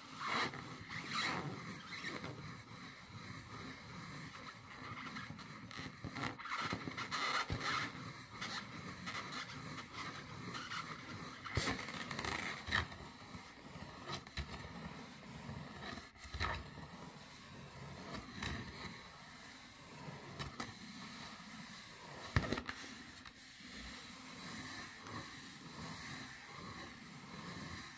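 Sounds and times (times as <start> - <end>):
scratching on balloon: 0.0 - 27.9.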